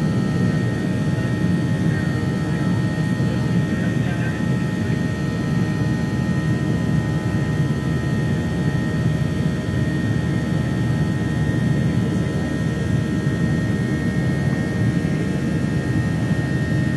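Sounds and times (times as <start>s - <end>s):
jet engine high whine: 0.0s - 16.9s
jet engine rumble: 0.0s - 16.9s.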